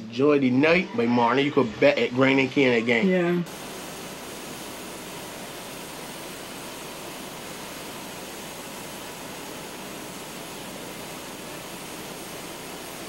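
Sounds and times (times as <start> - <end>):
steady hiss-like noise: 0.0 - 13.0.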